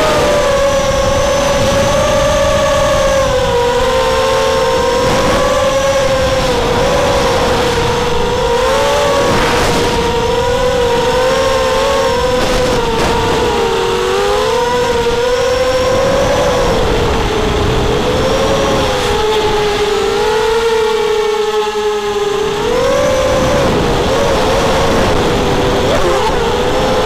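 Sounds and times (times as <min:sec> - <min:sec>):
drone motors whining: 0:00.0 - 0:27.0
wind rushing over microphone: 0:00.0 - 0:27.0.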